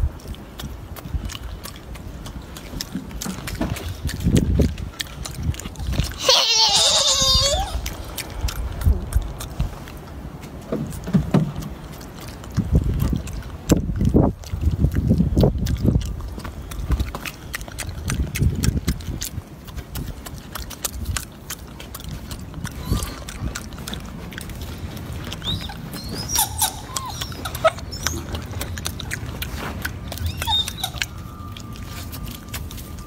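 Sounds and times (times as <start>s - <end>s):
low rumbling noise: 0.0s - 33.0s
monkey chewing and smacking: 0.0s - 33.0s.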